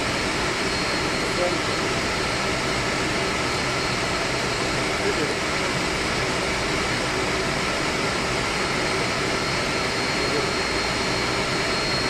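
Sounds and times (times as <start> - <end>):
air-conditioning machinery roar: 0.0 - 12.0.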